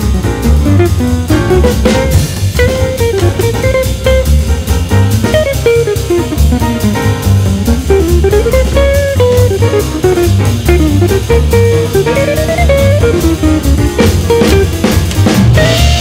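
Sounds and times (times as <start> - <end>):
upbeat jazzy guitar music: 0.0 - 16.0.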